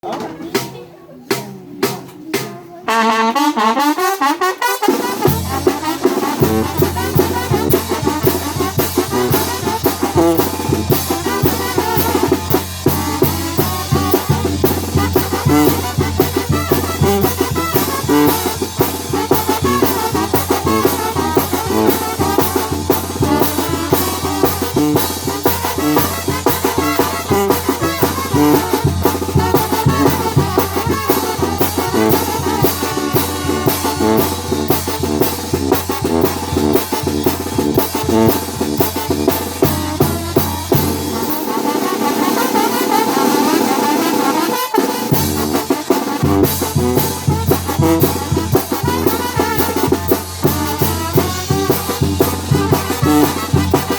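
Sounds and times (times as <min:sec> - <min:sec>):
brass band playing: 0:01.7 - 0:53.9.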